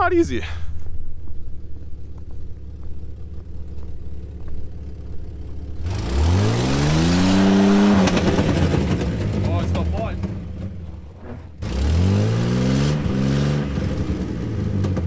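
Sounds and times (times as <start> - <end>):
vehicle engine idling and revving: 0.0 - 15.0.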